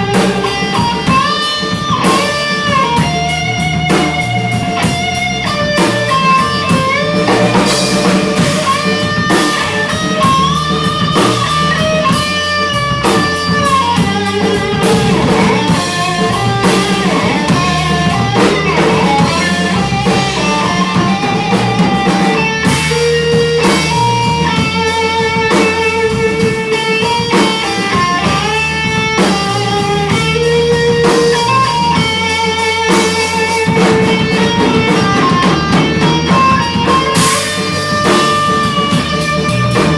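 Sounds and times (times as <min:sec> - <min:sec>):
live guitar music: 0:00.0 - 0:39.9.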